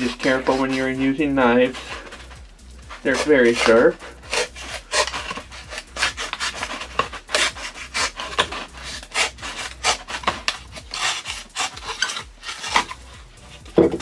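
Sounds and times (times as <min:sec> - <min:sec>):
knife sawing through cardboard tube: 0:00.0 - 0:14.0.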